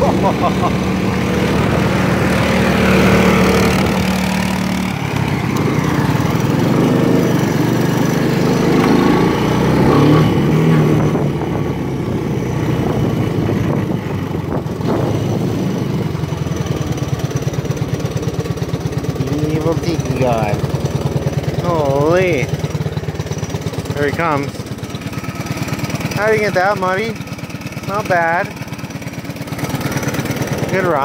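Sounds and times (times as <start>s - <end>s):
single-cylinder engine running: 0.0s - 31.0s.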